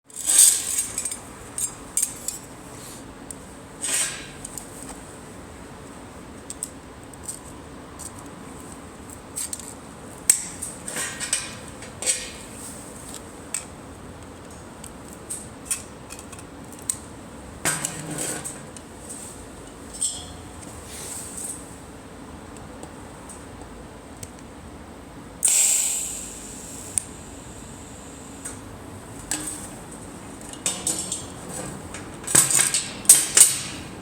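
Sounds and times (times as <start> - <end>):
steady hum: 0.2 - 34.0.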